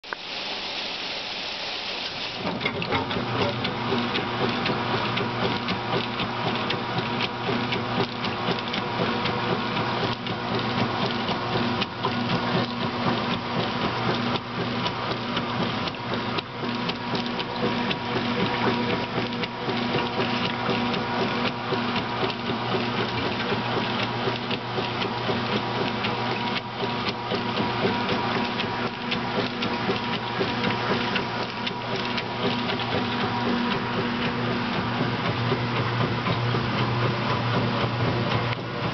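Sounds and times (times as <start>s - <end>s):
water and clothes churning: 0.2s - 38.9s
washing machine motor hum: 1.4s - 38.9s.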